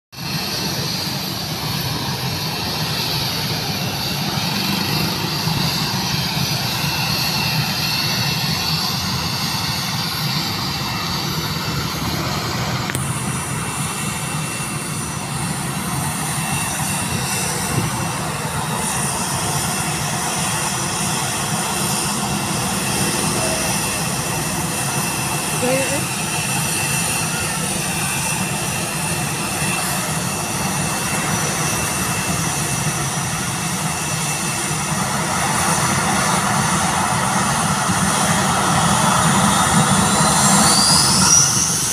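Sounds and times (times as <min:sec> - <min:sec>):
jet engines running: 0:00.2 - 0:41.9.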